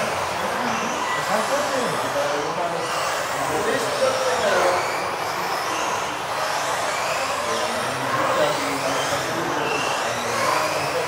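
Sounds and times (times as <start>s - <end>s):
model car electric motors whining: 0.0s - 11.0s.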